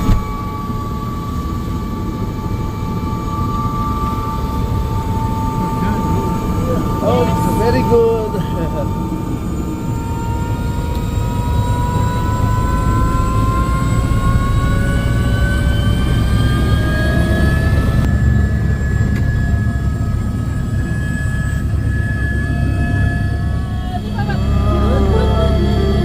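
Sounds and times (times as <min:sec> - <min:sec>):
helicopter running: 0:00.0 - 0:26.0.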